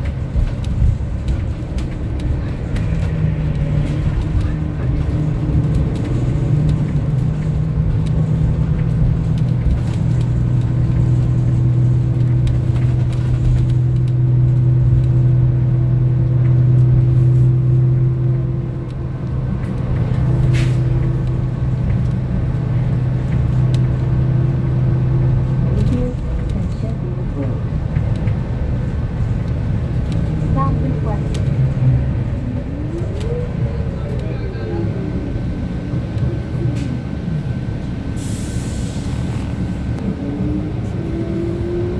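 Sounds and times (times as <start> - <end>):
bus engine hum: 0.0 - 41.9
road rumble: 0.0 - 41.9.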